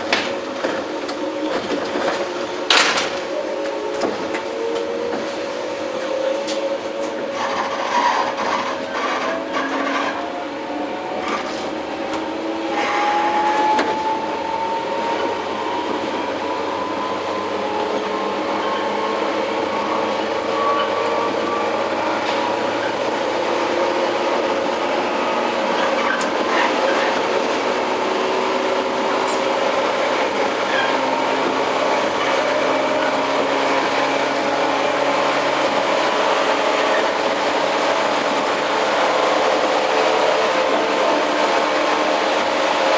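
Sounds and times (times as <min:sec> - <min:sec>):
traction motor whine: 0:00.0 - 0:42.9
train wheel and rail noise: 0:00.0 - 0:42.9.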